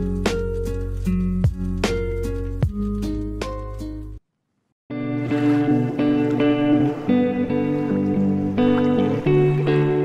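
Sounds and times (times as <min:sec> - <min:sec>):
guitar instrumental music: 0:00.0 - 0:04.2, 0:04.9 - 0:10.0.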